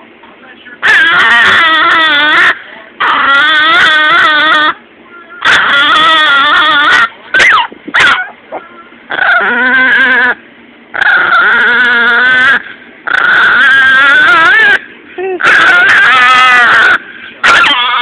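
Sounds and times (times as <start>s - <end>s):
dog snarling: 0.8s - 4.8s, 5.4s - 10.4s, 11.0s - 14.8s, 15.4s - 18.0s
dog yelps: 0.8s - 4.8s, 5.4s - 10.4s, 11.0s - 14.8s, 15.4s - 18.0s
dog whining cries: 0.8s - 10.4s, 11.0s - 18.0s.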